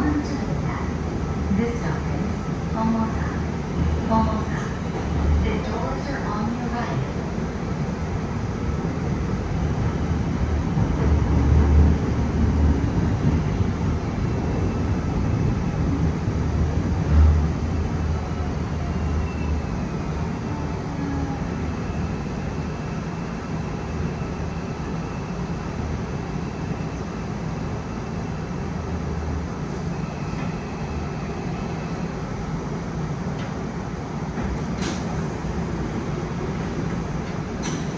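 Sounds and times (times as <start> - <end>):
train wheel rumble on track: 0.0 - 37.9.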